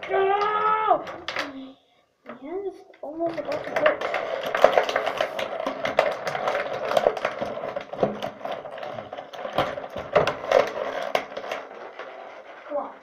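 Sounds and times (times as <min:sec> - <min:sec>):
plastic toy packaging rattling: 0:00.0 - 0:01.7, 0:02.4 - 0:13.0.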